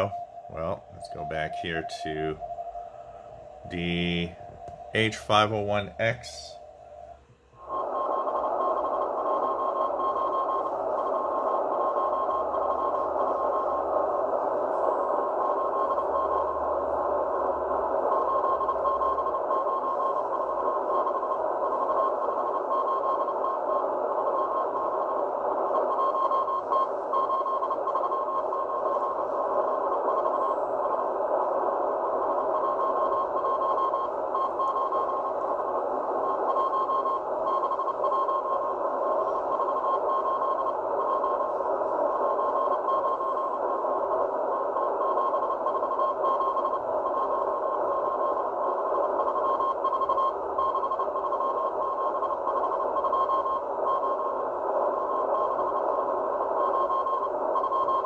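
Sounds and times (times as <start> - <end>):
shortwave static hiss: 0.0 - 58.0.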